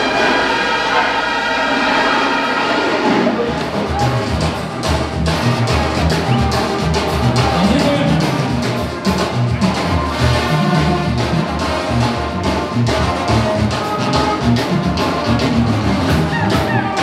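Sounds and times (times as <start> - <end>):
brass band music: 0.0 - 17.0.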